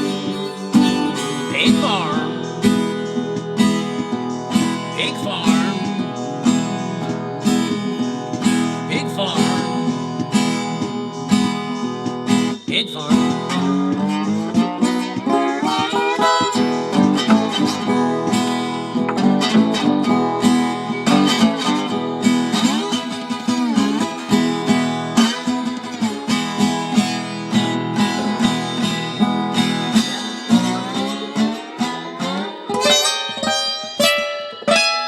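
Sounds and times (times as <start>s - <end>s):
acoustic guitar playing: 0.0s - 35.0s.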